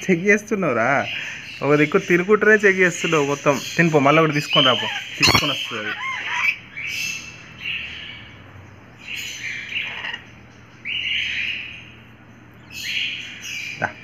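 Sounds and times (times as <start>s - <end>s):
lorikeets screeching: 0.8s - 14.0s.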